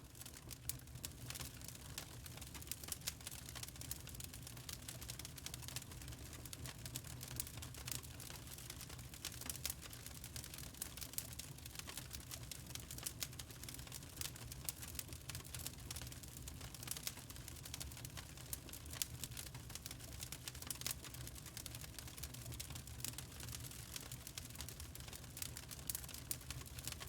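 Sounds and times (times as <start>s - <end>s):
fire crackles and pops: 0.1s - 27.0s
wood fire rumble: 0.1s - 27.0s.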